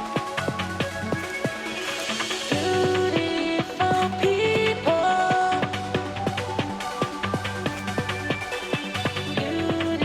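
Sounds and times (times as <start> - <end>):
electronic music with synths: 0.0 - 10.0.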